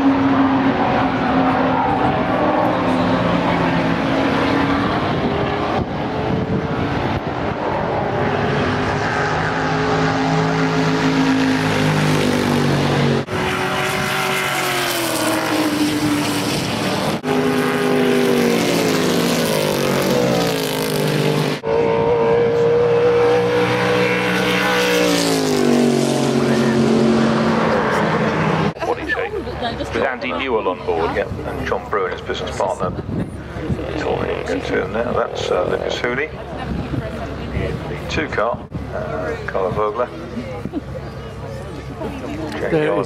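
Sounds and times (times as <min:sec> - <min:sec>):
racing car engines passing: 0:00.0 - 0:43.0.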